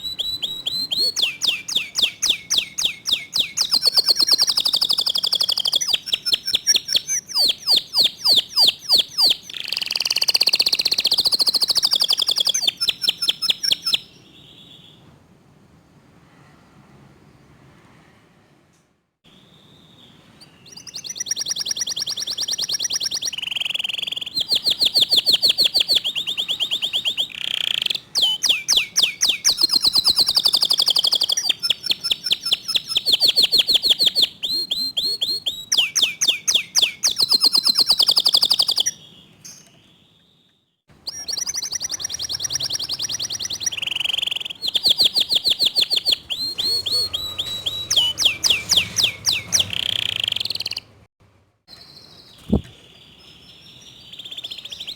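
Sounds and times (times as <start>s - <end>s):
canary singing trills: 0.0s - 15.0s, 19.3s - 51.0s, 51.7s - 54.9s.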